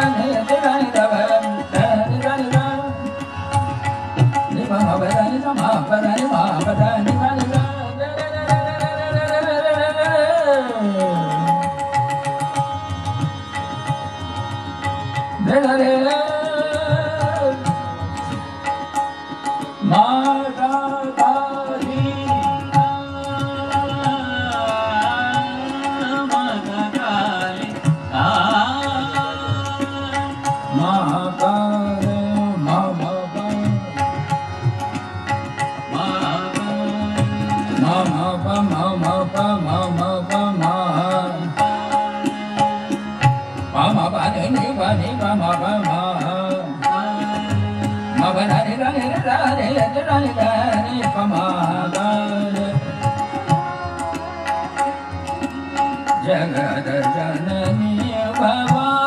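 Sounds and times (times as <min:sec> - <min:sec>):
man singing: 0:00.0 - 0:13.8, 0:15.2 - 0:18.8, 0:19.6 - 0:34.5, 0:35.3 - 0:59.0
harmonium: 0:00.0 - 0:59.0
tabla: 0:00.0 - 0:59.0.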